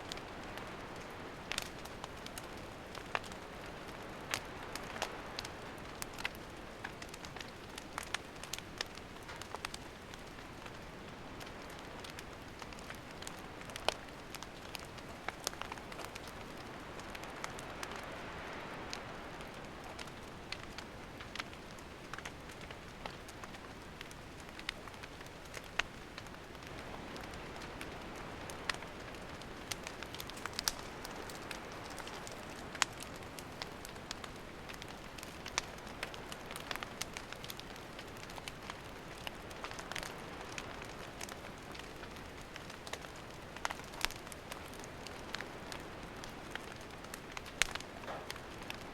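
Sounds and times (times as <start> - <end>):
campfire hissing: 0.0 - 48.9
firewood crackling and popping: 0.0 - 48.9.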